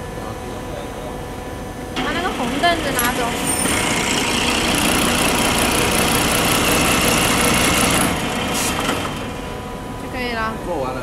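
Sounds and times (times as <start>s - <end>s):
machine whirring and hissing: 0.0s - 11.0s.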